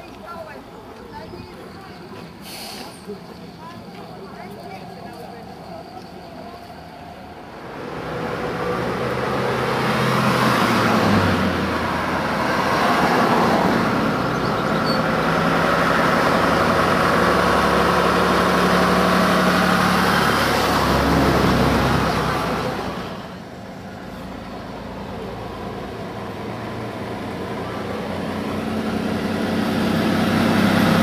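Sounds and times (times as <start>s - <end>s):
bus diesel engine droning: 0.0s - 31.0s
traffic noise: 0.0s - 31.0s.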